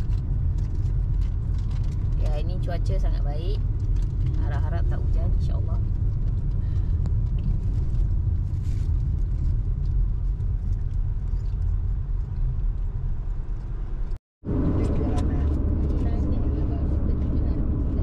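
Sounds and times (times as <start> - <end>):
car road rumble inside cabin: 0.0 - 18.0.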